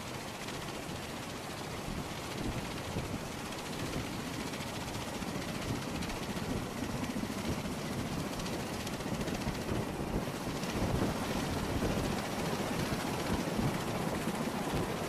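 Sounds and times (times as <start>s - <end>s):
aircraft engines and rotors roaring: 0.0s - 15.0s
wind on microphone: 1.9s - 4.2s, 5.2s - 15.0s.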